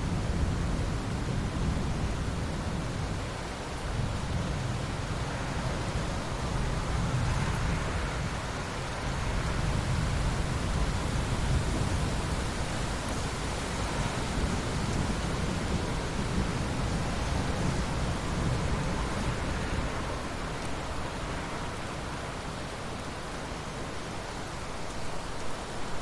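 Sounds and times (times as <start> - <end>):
rain falling on ocean water: 0.0 - 26.0.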